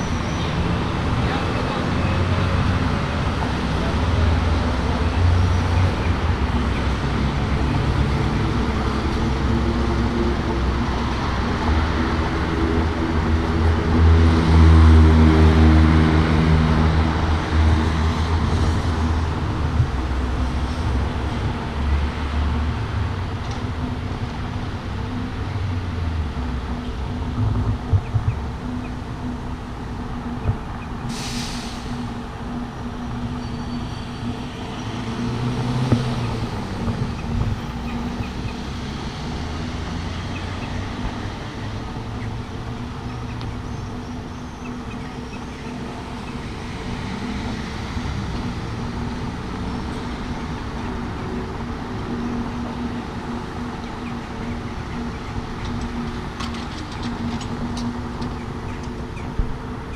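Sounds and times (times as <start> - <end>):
heavy vehicle engine rumble: 0.0 - 59.9.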